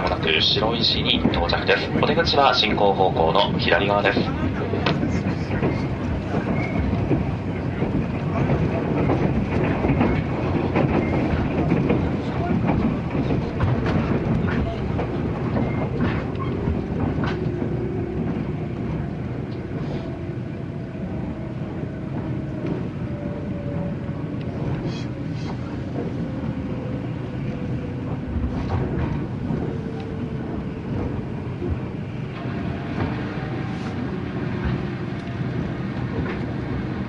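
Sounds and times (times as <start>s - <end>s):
train rumble inside carriage: 0.0s - 37.0s.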